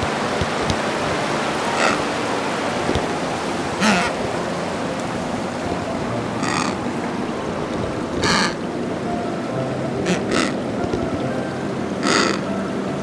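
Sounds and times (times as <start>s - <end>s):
surf noise: 0.0s - 13.0s
penguin calls: 1.6s - 12.5s.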